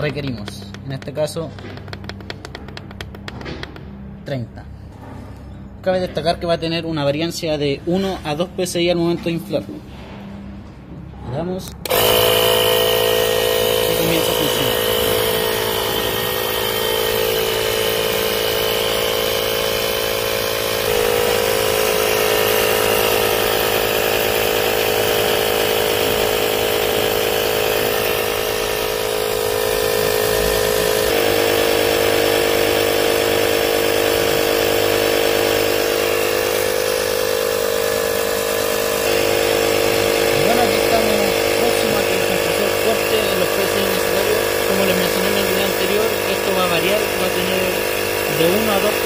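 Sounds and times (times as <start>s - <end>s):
air compressor running: 0.0s - 5.7s, 11.6s - 49.0s.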